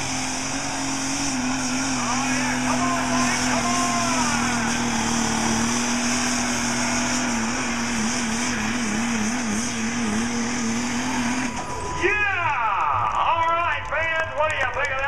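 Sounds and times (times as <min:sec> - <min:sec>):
diesel truck engine at full throttle: 0:00.0 - 0:15.0.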